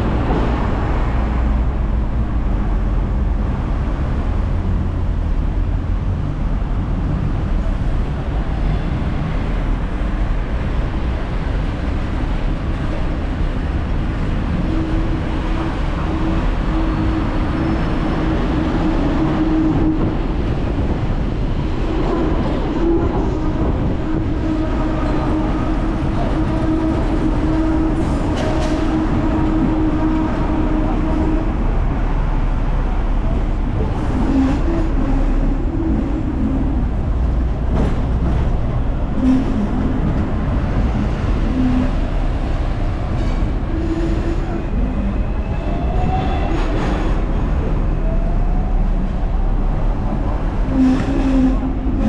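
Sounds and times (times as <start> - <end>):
tram wheels rumbling: 0.0 - 52.0.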